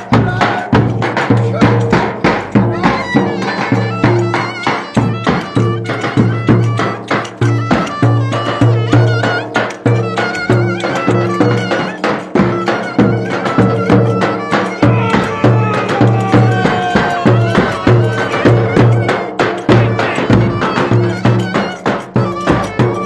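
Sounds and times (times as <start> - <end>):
folk dance band music: 0.0 - 23.0
steady drum beat: 0.0 - 23.0.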